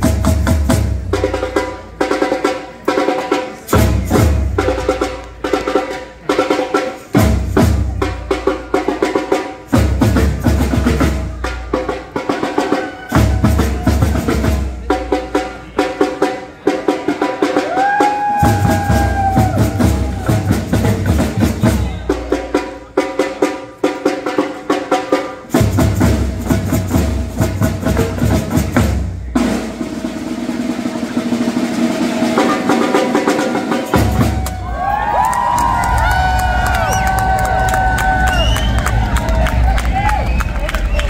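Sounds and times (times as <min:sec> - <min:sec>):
drumline playing fast groove: 0:00.0 - 0:41.0.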